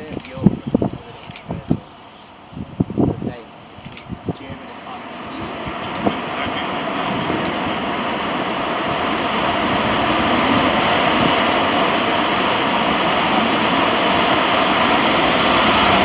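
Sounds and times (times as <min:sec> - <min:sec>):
jet engines at high thrust: 0:00.0 - 0:16.0.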